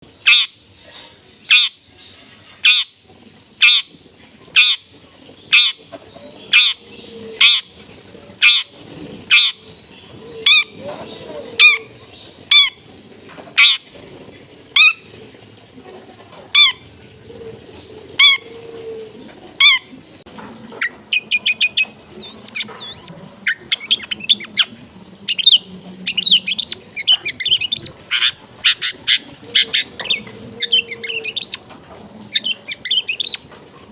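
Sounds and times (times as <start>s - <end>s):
bird harsh calls and chattering: 0.1s - 33.9s.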